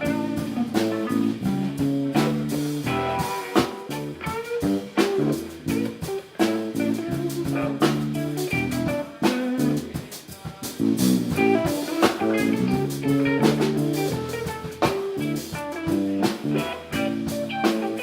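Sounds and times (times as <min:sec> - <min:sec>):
electric guitar lines: 0:00.0 - 0:10.1, 0:10.8 - 0:18.0
drum kit beat: 0:00.0 - 0:18.0.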